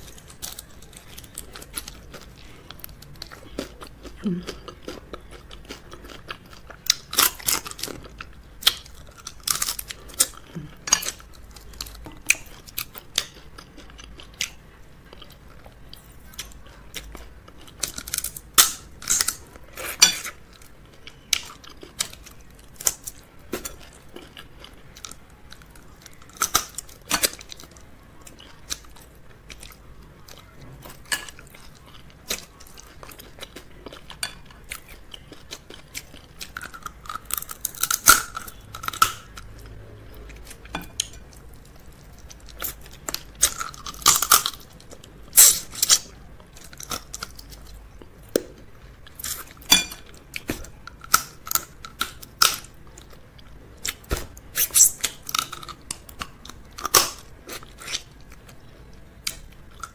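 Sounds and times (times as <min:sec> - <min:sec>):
close chewing: 0:00.0 - 0:59.9.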